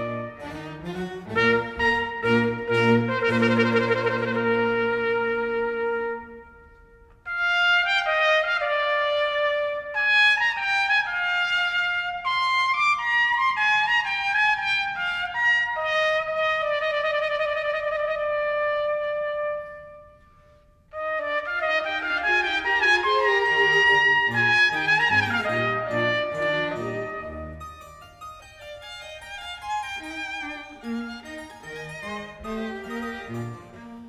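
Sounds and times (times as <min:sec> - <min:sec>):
trumpet melody: 0:00.0 - 0:34.0.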